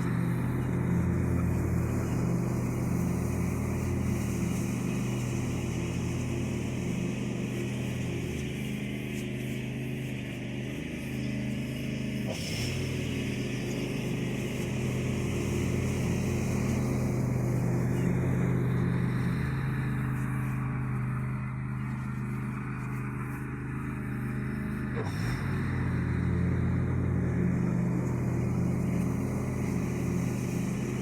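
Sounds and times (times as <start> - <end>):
lawn tractor engine running: 0.0 - 31.0.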